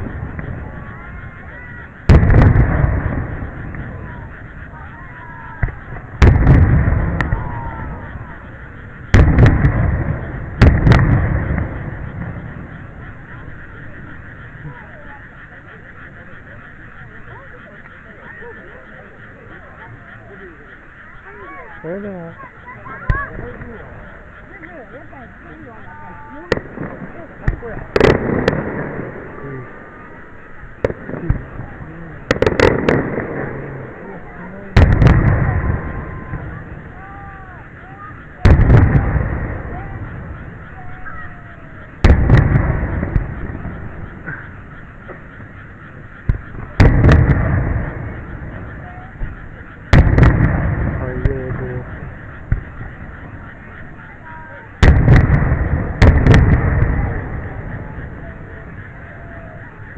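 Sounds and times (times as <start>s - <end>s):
fireworks booming: 0.0s - 59.9s
sharp fireworks cracks: 0.0s - 59.9s.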